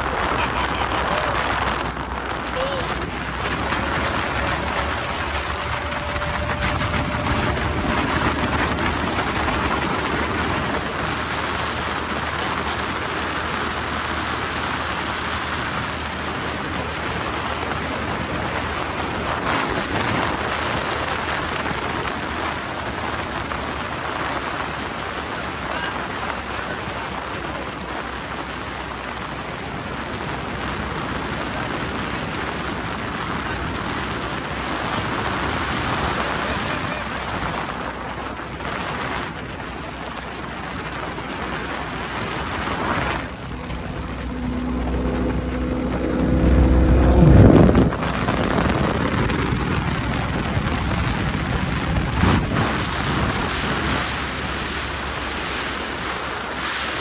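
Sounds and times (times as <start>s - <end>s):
speedboat engine at speed: 0.0s - 57.0s.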